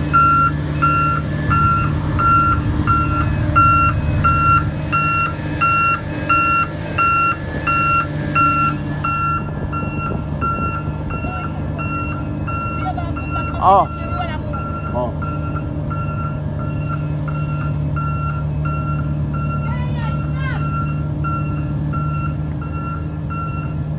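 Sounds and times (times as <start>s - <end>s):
machine engine running: 0.0s - 23.9s
reversing alarm beeping: 0.0s - 23.9s.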